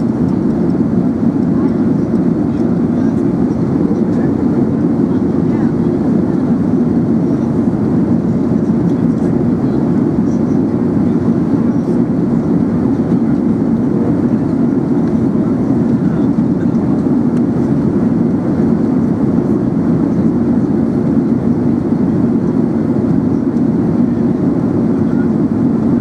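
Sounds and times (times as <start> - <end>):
aircraft cabin engine rush: 0.0 - 26.0.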